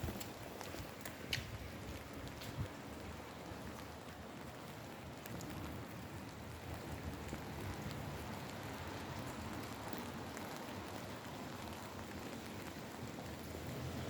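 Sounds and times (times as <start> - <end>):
steady rain hiss: 0.0 - 14.0
sharp drip ticks: 0.2 - 13.9.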